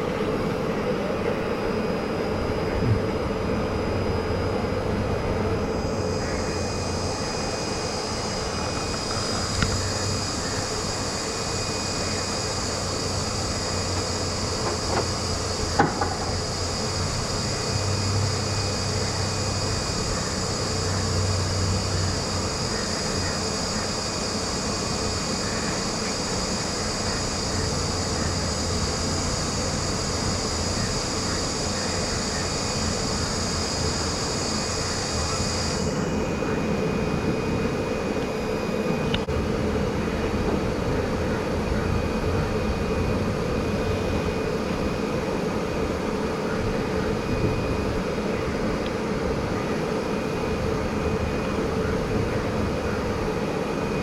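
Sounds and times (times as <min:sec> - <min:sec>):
high steady whine: 0:00.0 - 0:54.0
mechanical drone with low hum: 0:00.0 - 0:54.0.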